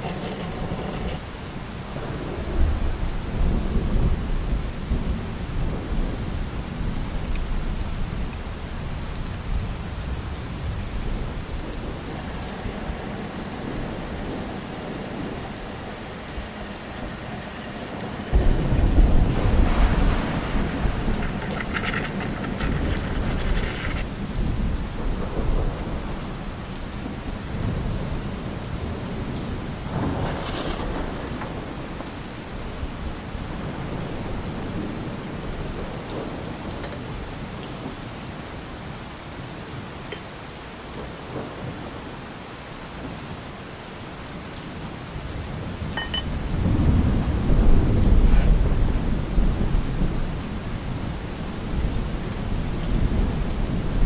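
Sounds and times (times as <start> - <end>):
steady rain falling: 0.0 - 54.0
low roll of thunder: 1.9 - 38.0, 45.2 - 54.0.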